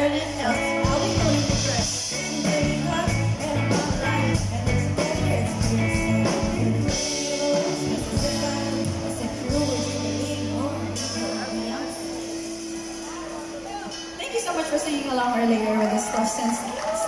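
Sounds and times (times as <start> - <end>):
live pop-rock band playing: 0.0 - 15.6.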